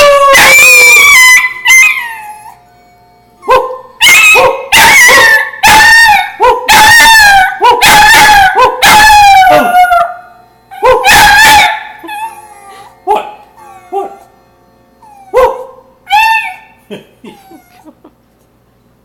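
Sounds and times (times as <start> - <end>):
dog howling: 0.0 - 2.7, 3.4 - 14.4, 15.0 - 18.0.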